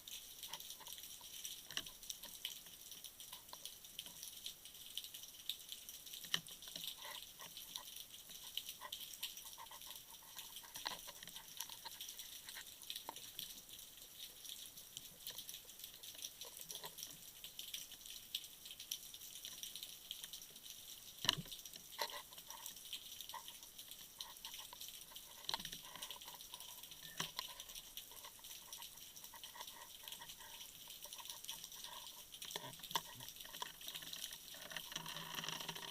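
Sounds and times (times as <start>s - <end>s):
faint underwater crackle: 0.0s - 35.9s
sharp underwater clicks: 0.4s - 20.6s, 21.2s - 35.9s.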